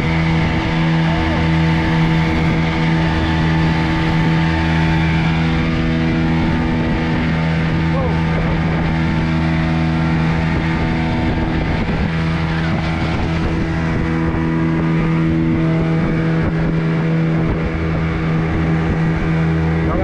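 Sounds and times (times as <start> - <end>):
boat engine droning: 0.0 - 20.0
rushing noise: 0.0 - 20.0.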